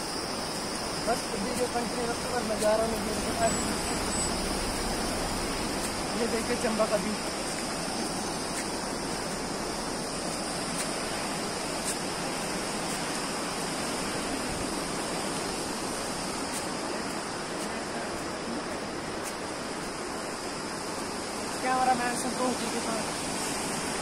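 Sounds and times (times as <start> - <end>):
white-water river rushing: 0.0 - 24.0.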